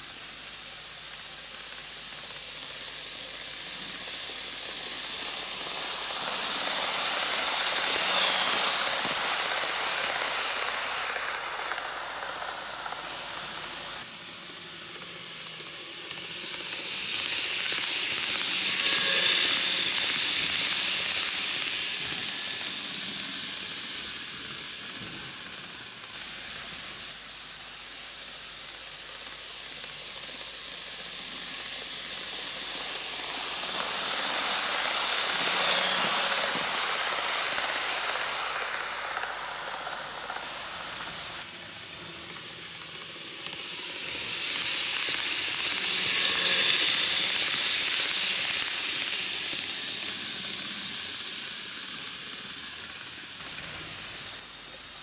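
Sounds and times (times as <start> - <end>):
model train rushing on rails: 0.0 - 55.0.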